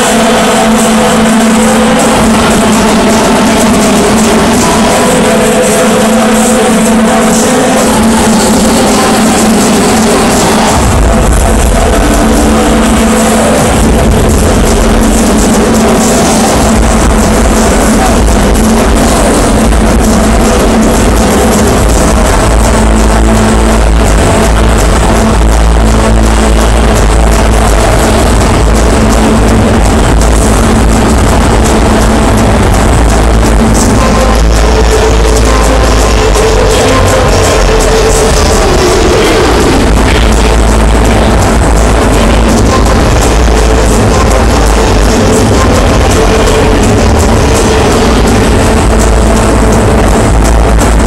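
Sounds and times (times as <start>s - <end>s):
loud music with heavy bass: 0.0s - 51.0s
noisy background: 0.0s - 51.0s.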